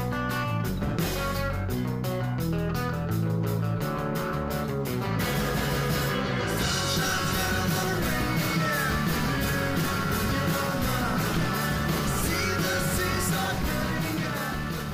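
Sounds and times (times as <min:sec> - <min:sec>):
rock and roll music: 0:00.0 - 0:14.9.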